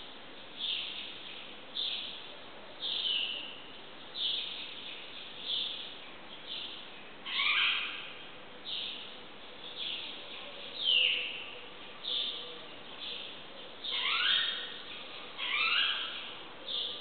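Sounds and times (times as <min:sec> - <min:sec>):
bird calls echoing: 0:02.8 - 0:17.0.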